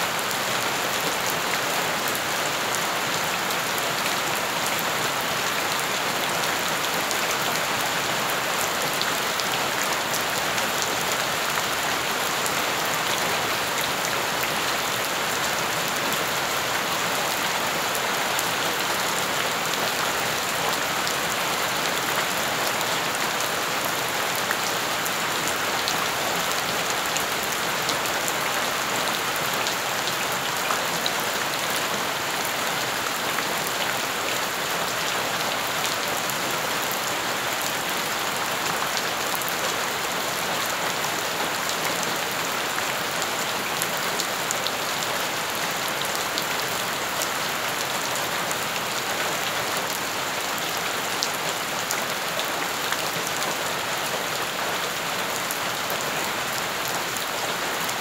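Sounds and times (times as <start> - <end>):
rain falling on wet ground: 0.0 - 58.0.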